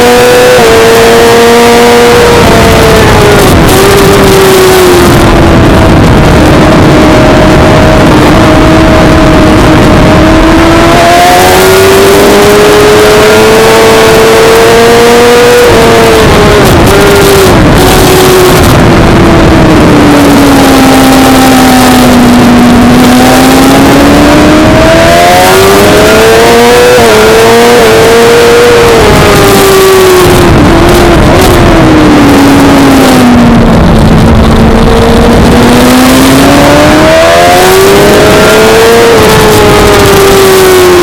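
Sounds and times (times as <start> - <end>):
motorcycle engine revving: 0.0 - 41.0
wind noise: 0.0 - 41.0.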